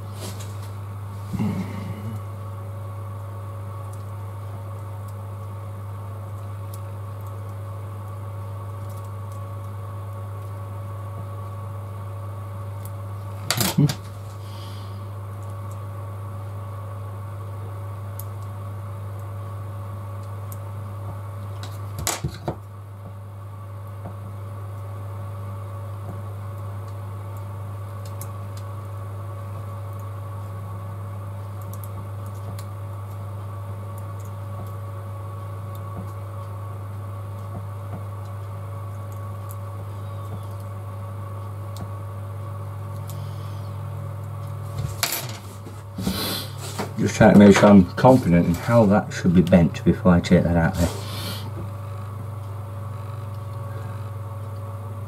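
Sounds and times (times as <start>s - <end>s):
fan or motor humming: 0.0s - 55.0s.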